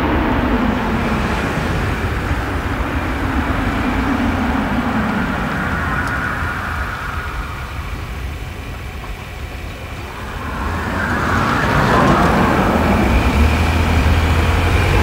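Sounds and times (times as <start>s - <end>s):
low hum of passing car engine: 0.2s - 15.0s
tyre hiss of passing car: 0.7s - 15.0s.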